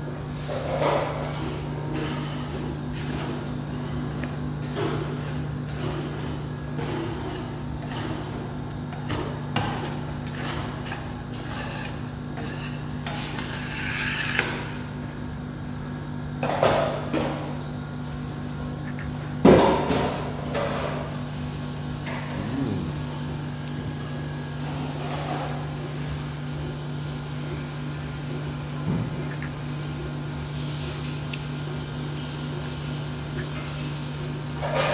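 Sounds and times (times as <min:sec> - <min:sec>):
low machine hum: 0:00.0 - 0:34.9.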